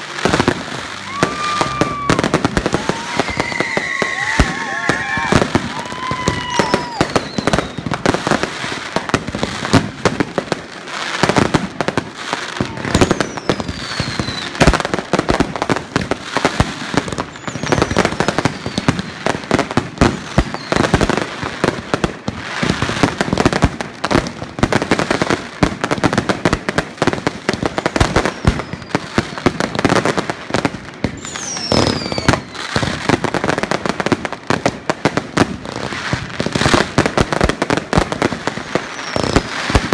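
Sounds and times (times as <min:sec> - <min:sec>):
fireworks bangs and crackling: 0:00.0 - 0:39.9
whistling fireworks: 0:00.0 - 0:39.9.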